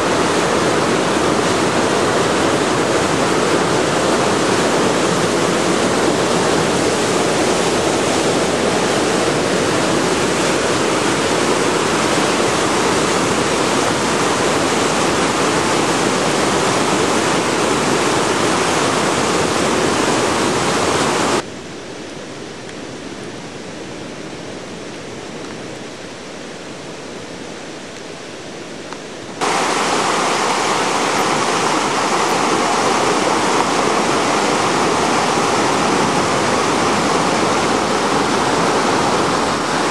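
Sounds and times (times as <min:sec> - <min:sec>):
floodwater rushing: 0:00.0 - 0:21.4, 0:27.6 - 0:39.9.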